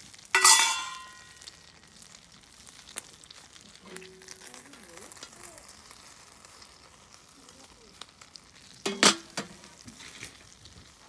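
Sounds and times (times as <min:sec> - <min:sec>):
food sizzling in a pan: 0:00.0 - 0:11.0
wood fire crackling: 0:00.0 - 0:11.0.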